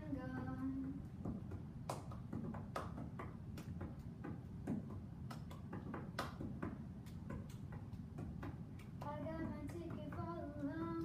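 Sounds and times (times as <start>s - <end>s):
low room hum: 0.0s - 11.0s
child clapping hands: 1.8s - 11.0s.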